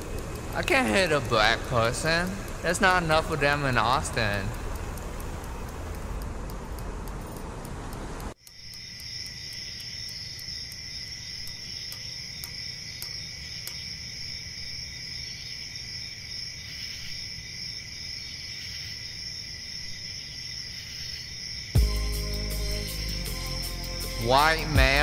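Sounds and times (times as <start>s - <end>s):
crickets chirping: 0.0s - 7.4s, 8.3s - 25.0s.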